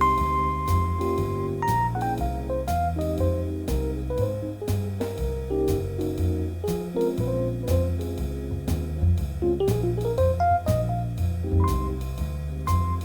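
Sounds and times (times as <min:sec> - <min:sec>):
instrumental jazz music: 0:00.0 - 0:13.0.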